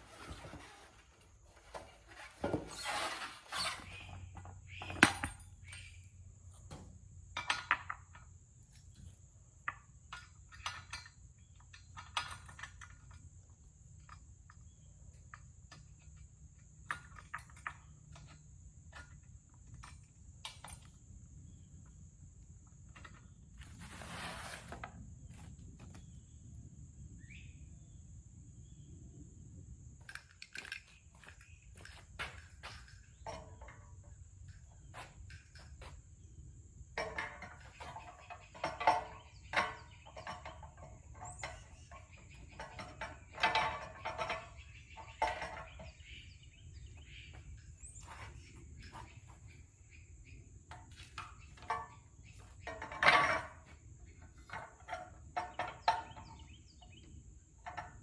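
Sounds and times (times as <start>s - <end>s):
parts and tools knocking and clinking: 3.9s - 23.9s, 30.0s - 36.3s, 36.9s - 58.0s.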